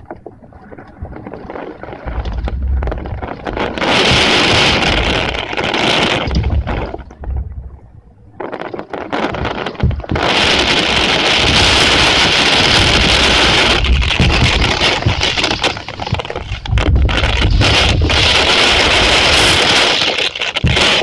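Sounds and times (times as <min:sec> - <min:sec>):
wind rumble on microphone: 0:00.0 - 0:21.0
heavy rain rushing: 0:01.4 - 0:07.6, 0:09.4 - 0:21.0.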